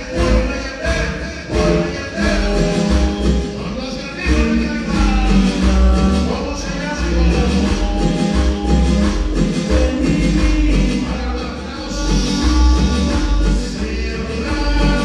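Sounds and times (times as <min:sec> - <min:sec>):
latin dance music with vocal: 0:00.0 - 0:15.0.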